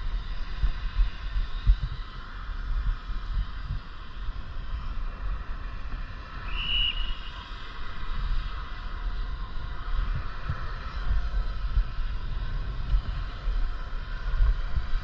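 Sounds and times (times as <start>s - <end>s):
bicycle riding noise: 0.0s - 15.0s
wind buffeting microphone: 0.0s - 15.0s.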